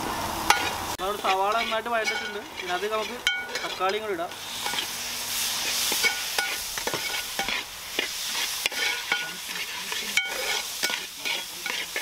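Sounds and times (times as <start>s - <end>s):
hot oil sizzling: 0.0s - 12.0s
spatula scraping metal pot: 0.5s - 4.0s, 4.6s - 4.9s, 5.6s - 12.0s.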